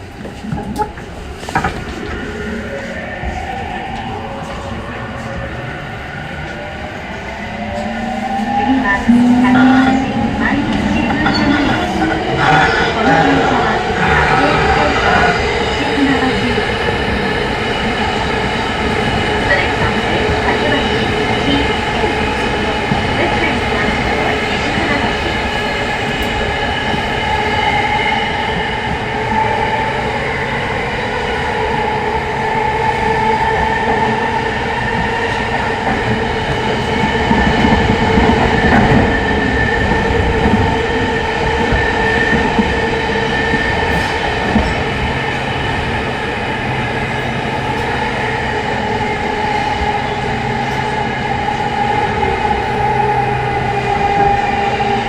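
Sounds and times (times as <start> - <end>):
train wheel and rail rumble: 0.0 - 55.0.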